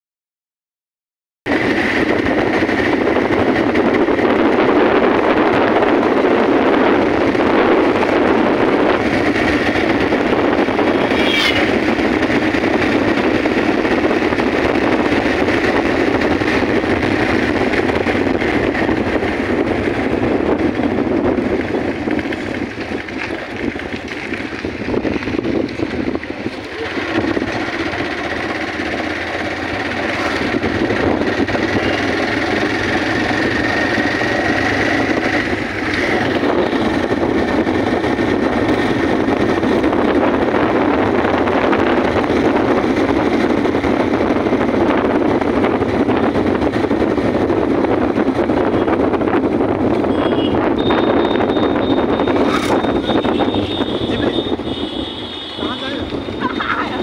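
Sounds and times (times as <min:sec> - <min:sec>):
motorcycle engine and road noise: 0:01.5 - 0:57.0
wind rushing over microphone: 0:01.5 - 0:57.0.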